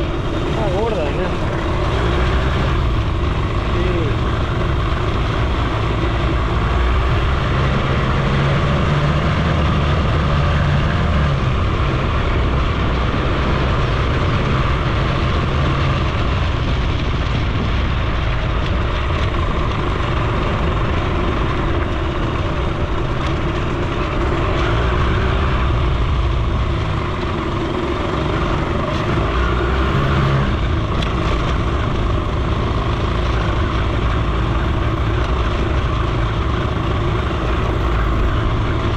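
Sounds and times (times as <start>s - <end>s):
moped engine running: 0.0s - 38.9s
road noise: 0.0s - 38.9s
wind: 0.0s - 38.9s.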